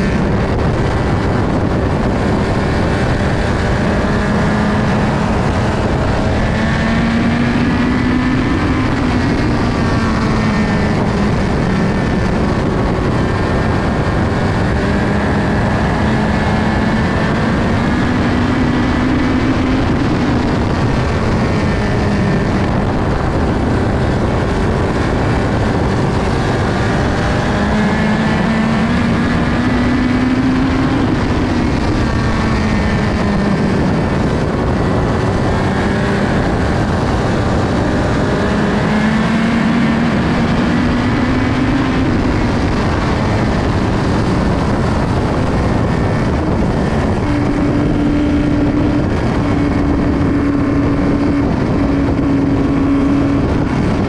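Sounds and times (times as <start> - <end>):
racing engine at full speed: 0.0 - 54.0
wind noise: 0.0 - 54.0.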